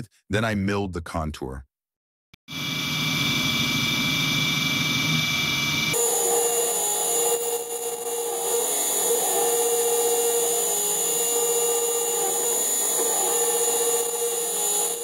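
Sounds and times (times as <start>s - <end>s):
milling machine spindle whine: 2.5s - 15.0s.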